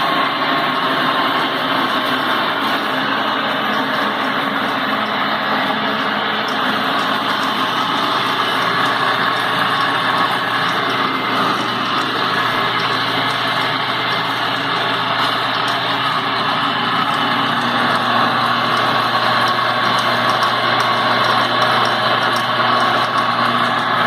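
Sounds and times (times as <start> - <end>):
bandsaw running: 0.0 - 24.0.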